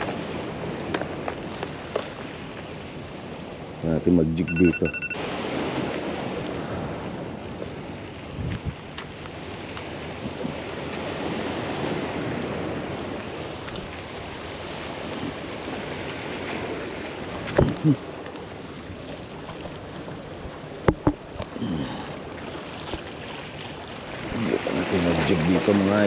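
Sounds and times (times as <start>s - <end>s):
sea washing against rocks: 0.0s - 26.0s.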